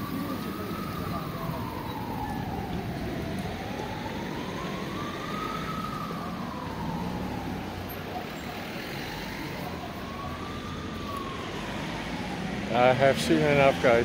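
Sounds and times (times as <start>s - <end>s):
emergency siren wailing: 0.0s - 14.0s
low street traffic rumble: 0.0s - 14.0s.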